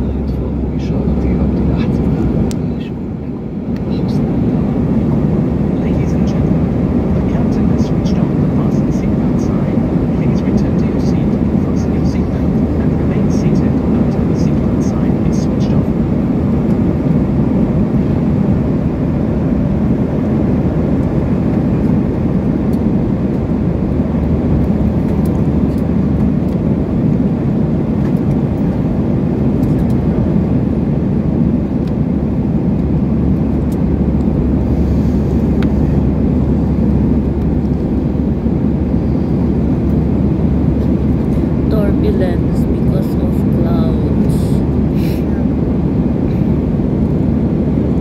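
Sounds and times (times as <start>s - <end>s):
jet engines roaring in cabin: 0.0s - 48.0s.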